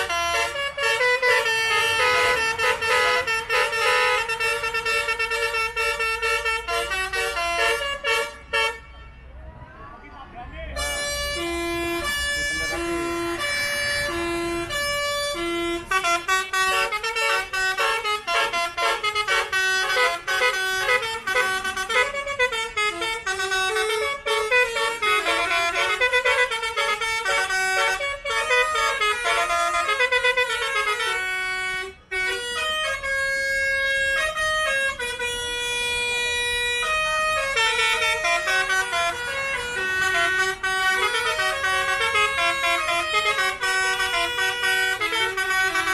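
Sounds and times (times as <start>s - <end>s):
bus horn playing melody: 0.0s - 9.3s, 10.8s - 45.9s.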